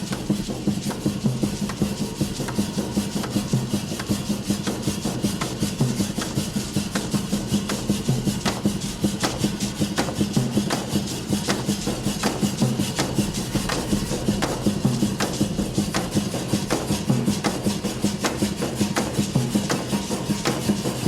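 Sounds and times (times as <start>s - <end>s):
rasping clicking percussion: 0.0s - 21.0s.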